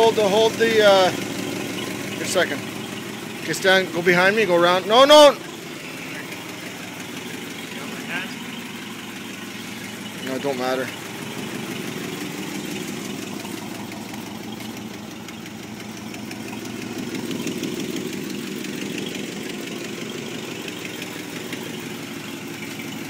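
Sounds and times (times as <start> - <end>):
car engine idling: 0.0 - 23.0
fast steady valvetrain ticking: 0.0 - 23.0.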